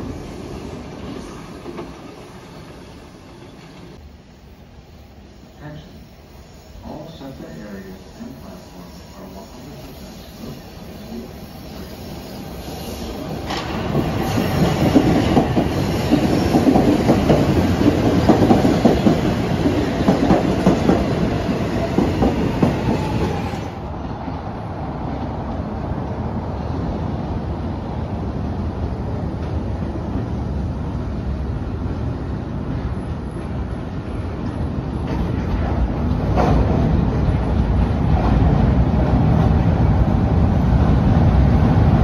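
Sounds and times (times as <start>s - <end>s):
train passing close by: 0.0s - 42.0s.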